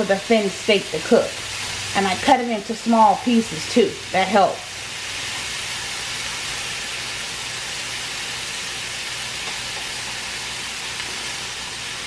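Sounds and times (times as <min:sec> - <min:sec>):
steak sizzling in a frying pan: 0:00.0 - 0:12.0.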